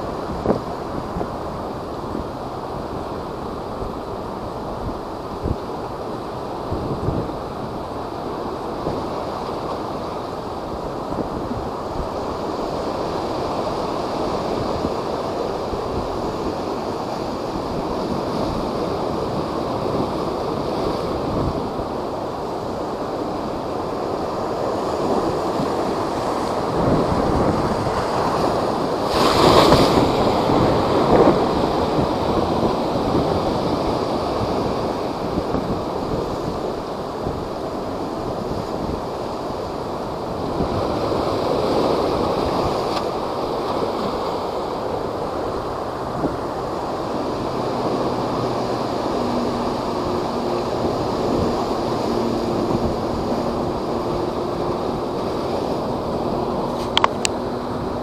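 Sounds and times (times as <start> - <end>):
waves surging and breaking: 0.0 - 58.0
wind on microphone: 0.0 - 58.0.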